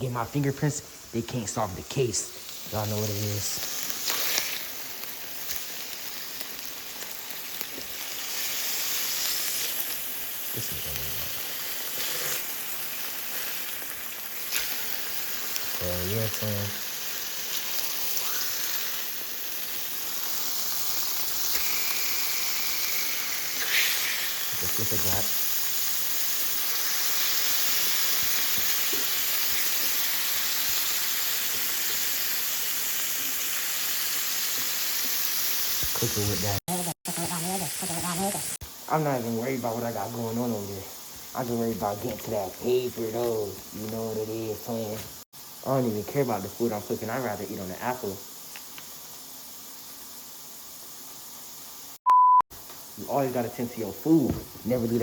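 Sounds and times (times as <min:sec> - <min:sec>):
burger patties sizzling in a pan: 0:00.0 - 0:55.0.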